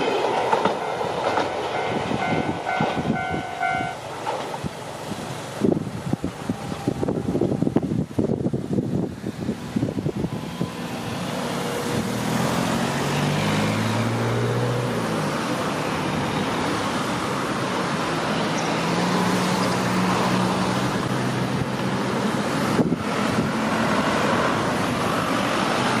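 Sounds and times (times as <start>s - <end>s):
engine hum: 0.0s - 26.0s
road traffic passing: 0.0s - 26.0s.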